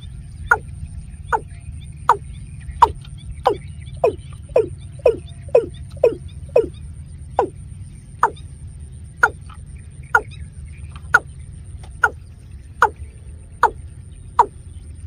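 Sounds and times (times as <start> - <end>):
bird calling hollow notes: 0.0 - 15.0
low hum: 0.0 - 15.0.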